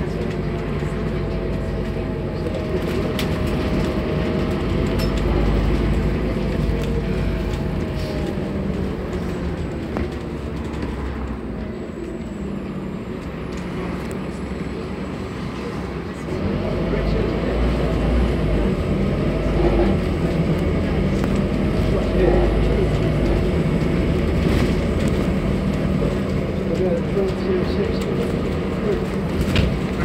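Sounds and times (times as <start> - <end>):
bus diesel engine rumbling: 0.0 - 30.0.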